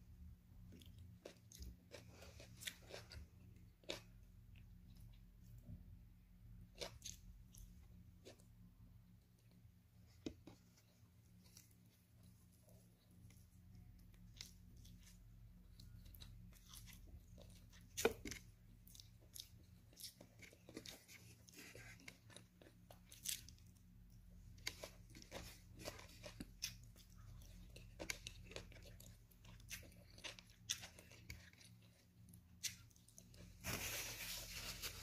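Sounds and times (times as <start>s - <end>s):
crunchy chewing: 0.6s - 5.7s, 6.6s - 33.6s.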